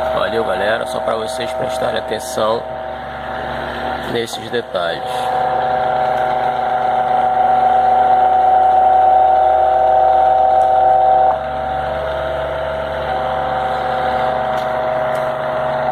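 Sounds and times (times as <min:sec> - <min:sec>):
fan vibrating hum: 0:00.0 - 0:15.9.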